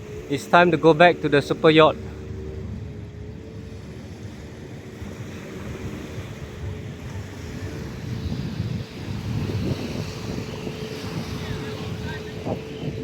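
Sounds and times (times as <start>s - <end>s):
sea rumble: 0.0s - 13.0s
wind buffeting microphone: 0.0s - 13.0s.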